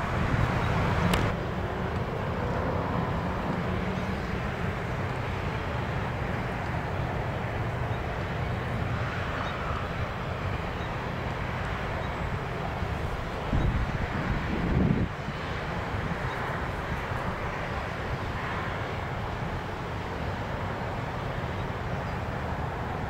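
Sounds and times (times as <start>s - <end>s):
freight train rumbling past: 0.0s - 23.0s
steady quieter rumble and hiss: 0.0s - 23.0s.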